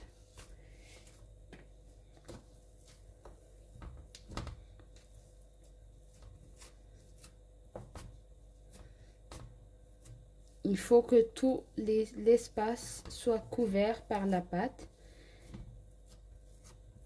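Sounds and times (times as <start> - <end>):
hands rubbing dough: 0.0 - 17.0.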